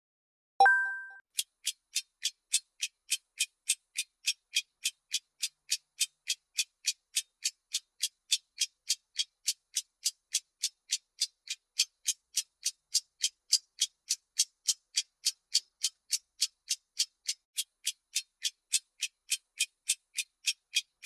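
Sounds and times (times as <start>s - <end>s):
clock ticking: 0.6s - 21.0s.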